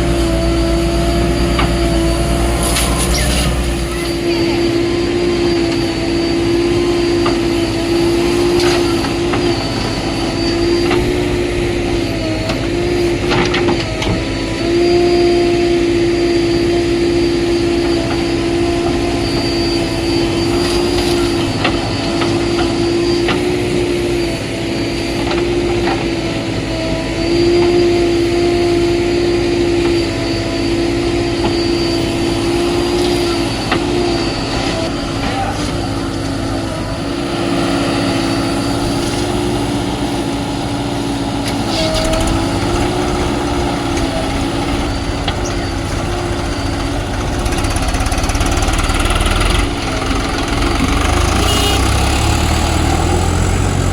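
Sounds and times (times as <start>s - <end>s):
diesel engine whining: 0.0s - 53.9s.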